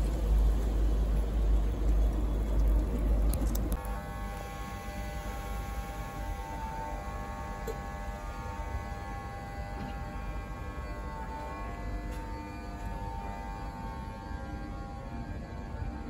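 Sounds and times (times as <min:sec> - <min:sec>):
electric train humming and whining: 0:00.0 - 0:16.0.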